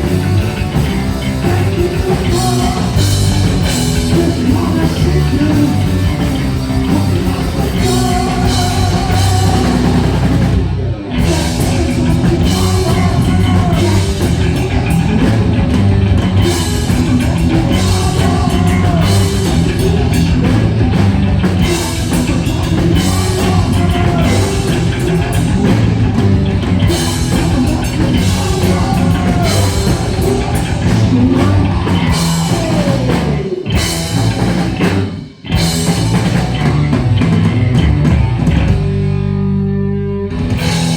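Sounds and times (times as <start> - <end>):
singing: 0.0 - 10.5, 11.1 - 35.1
drum kit: 0.0 - 39.3, 40.3 - 40.9
heavy metal band playing live: 0.0 - 40.9.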